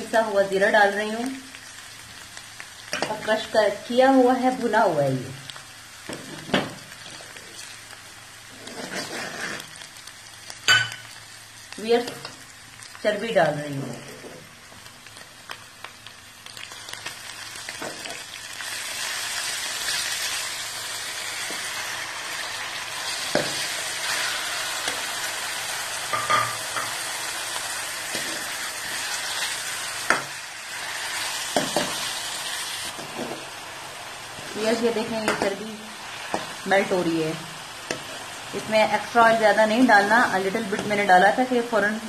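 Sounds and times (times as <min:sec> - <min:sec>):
fat sizzling in hot oil: 0:00.0 - 0:42.0.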